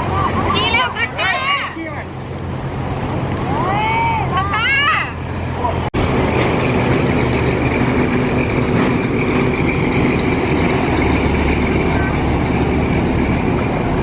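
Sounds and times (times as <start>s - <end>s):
heavy vehicle engine running: 2.0s - 14.0s.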